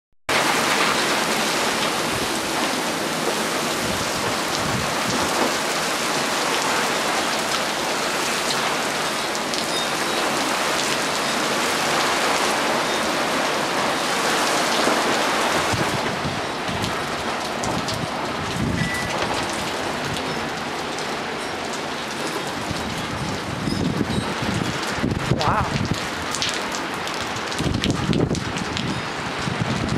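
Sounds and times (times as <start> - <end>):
heavy rain on pavement: 0.3 - 29.9.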